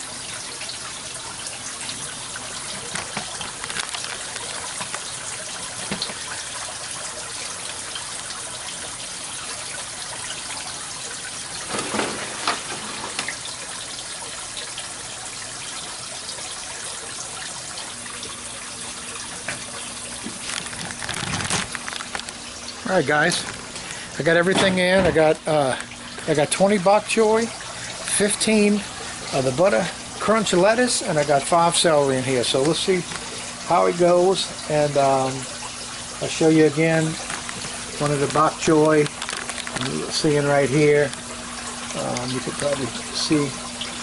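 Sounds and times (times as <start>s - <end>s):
water splashing from pipe: 0.0s - 44.0s.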